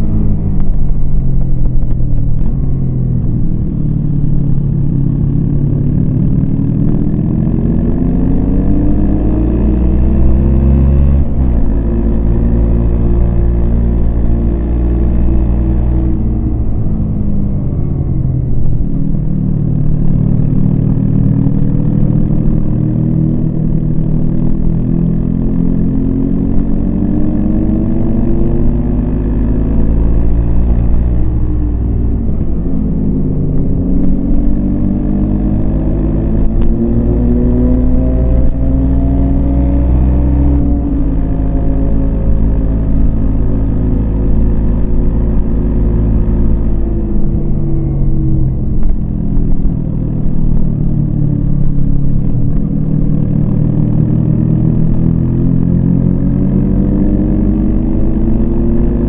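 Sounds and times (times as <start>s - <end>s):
motorcycle engine rising and falling: 0.0s - 59.0s.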